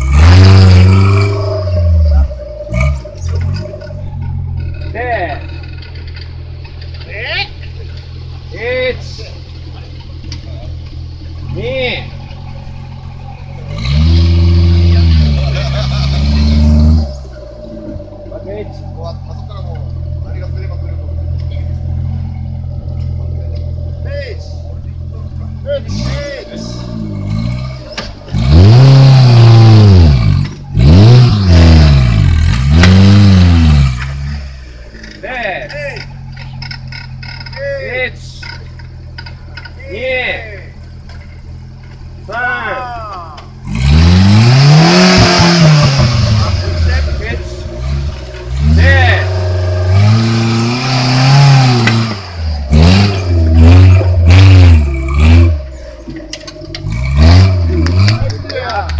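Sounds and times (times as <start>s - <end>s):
engine revving under load: 0.0s - 39.8s, 40.8s - 58.9s.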